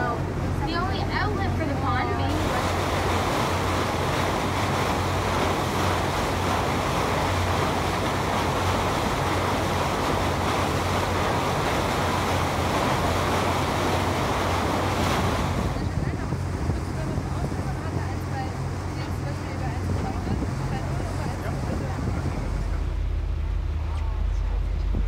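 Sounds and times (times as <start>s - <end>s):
boat engine drone: 0.0s - 25.0s
rushing water: 0.0s - 25.0s
wind: 0.0s - 25.0s.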